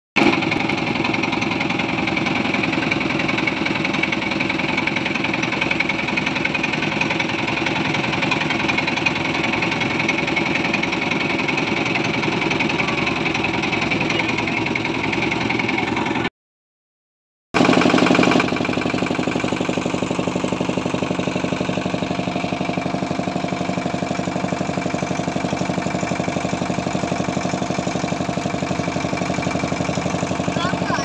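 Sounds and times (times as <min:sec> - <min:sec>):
motorboat engine chugging: 0:00.2 - 0:16.3, 0:17.6 - 0:31.0.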